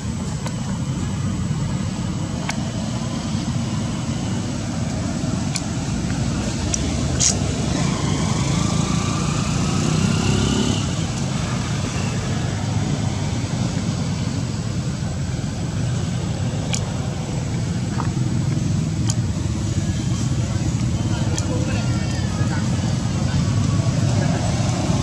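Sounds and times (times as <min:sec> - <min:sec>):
low outdoor rumble: 0:00.0 - 0:09.9, 0:10.7 - 0:25.0.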